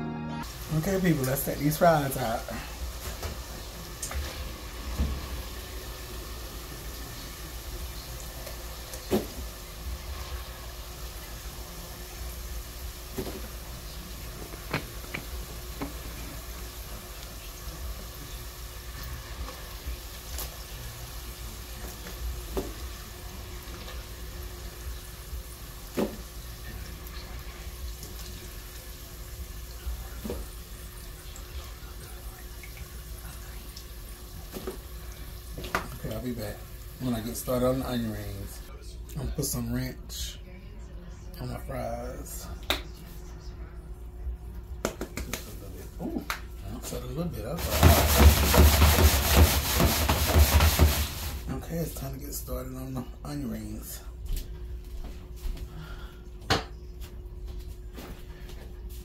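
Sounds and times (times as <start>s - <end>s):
steady hiss and hum: 0.4s - 59.0s.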